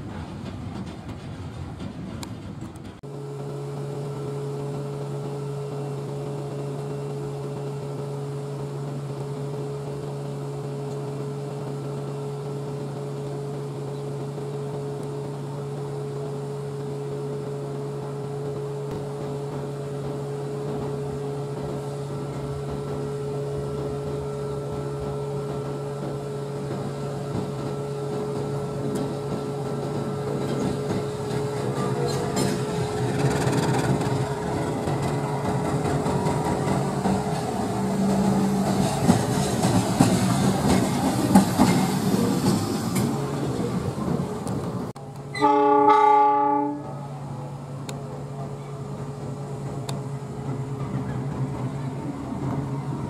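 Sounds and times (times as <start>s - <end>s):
locomotive engine drone: 0.0s - 53.0s.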